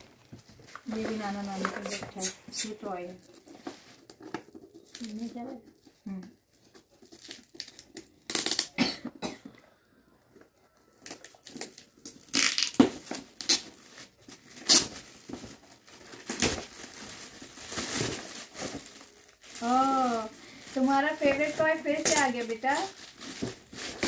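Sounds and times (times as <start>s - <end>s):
wrapping paper tearing and rustling: 0.6s - 8.8s, 10.9s - 24.0s.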